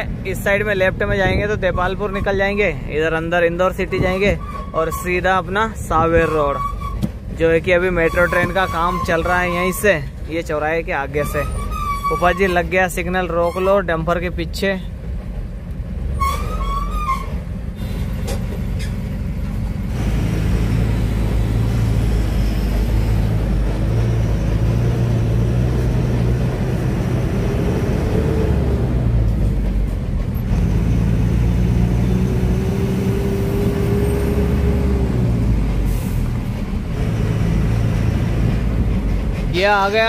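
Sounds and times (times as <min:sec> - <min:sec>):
truck diesel engine: 0:00.0 - 0:40.0.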